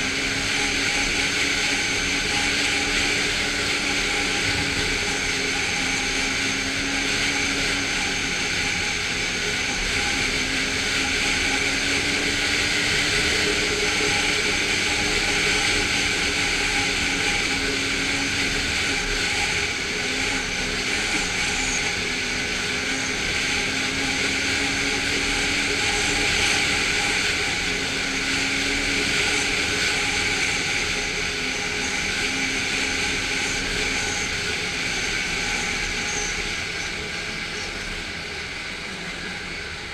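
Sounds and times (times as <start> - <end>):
constant rushing noise: 0.0 - 39.9
snowmobile engine running: 0.0 - 39.9.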